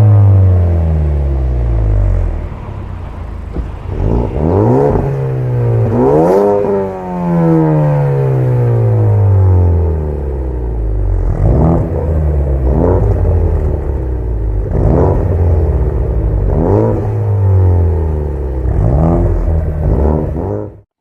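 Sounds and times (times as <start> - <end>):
car engine revving: 0.0 - 20.8.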